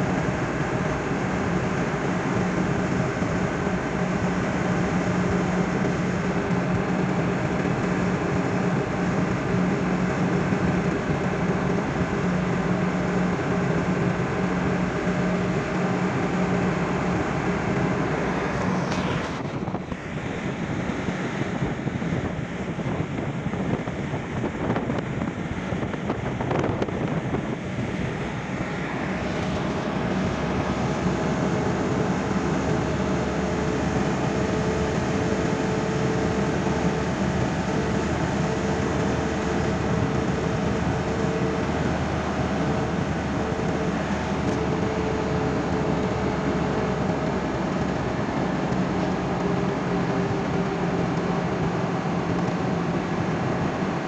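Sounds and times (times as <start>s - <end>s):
car engine drone and road noise: 0.0s - 54.0s
rough rushing noise: 0.0s - 54.0s.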